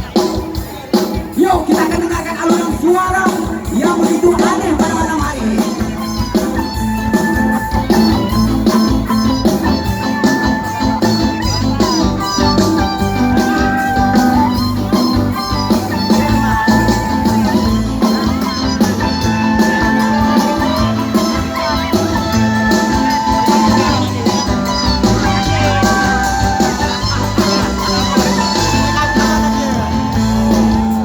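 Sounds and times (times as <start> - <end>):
instrumental band music: 0.0 - 31.0.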